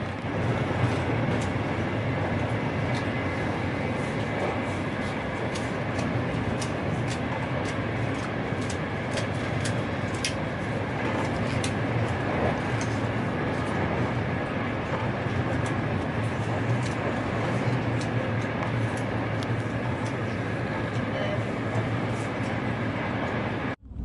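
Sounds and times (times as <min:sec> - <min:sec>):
high-speed train rumble and hiss: 0:00.0 - 0:24.0.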